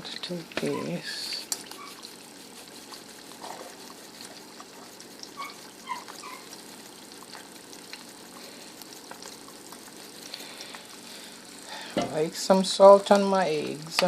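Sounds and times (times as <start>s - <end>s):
eggs sizzling in a skillet: 0.0s - 14.0s
small crackles: 0.1s - 11.9s.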